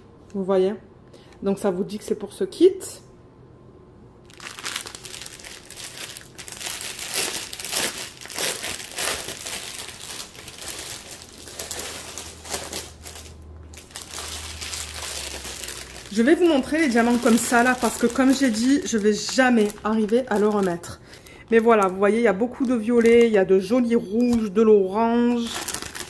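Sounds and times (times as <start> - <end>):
plastic packaging crinkling: 4.2 - 26.0.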